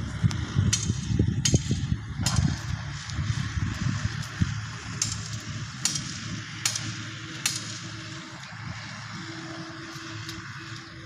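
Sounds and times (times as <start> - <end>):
outdoor hiss and rumble: 0.0 - 11.0.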